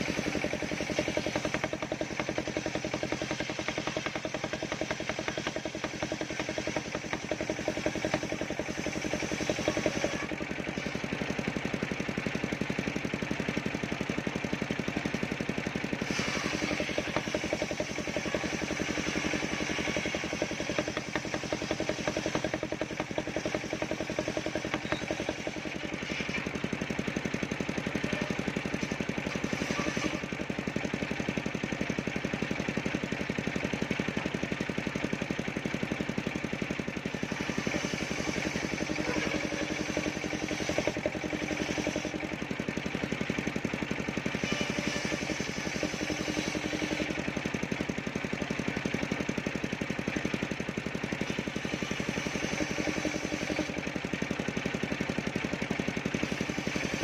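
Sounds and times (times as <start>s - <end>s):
engine-driven circular saw running: 0.0s - 57.0s
saw blade cutting wood: 0.0s - 57.0s.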